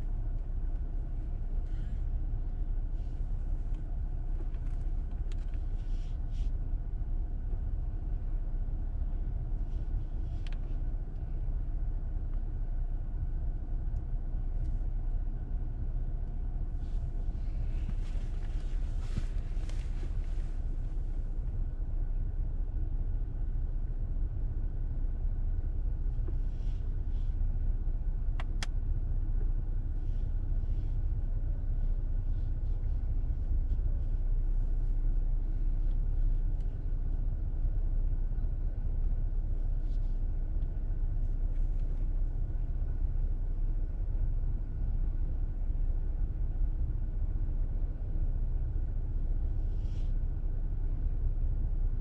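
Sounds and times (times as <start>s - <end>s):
faint steady whine: 0.0s - 52.0s
road and tyre rumble: 0.0s - 52.0s.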